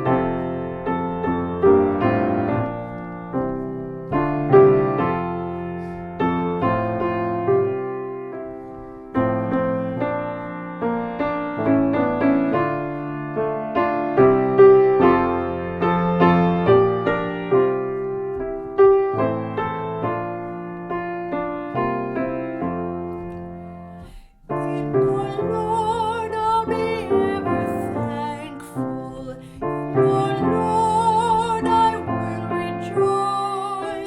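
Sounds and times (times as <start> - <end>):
solo piano hymn introduction: 0.0 - 34.0.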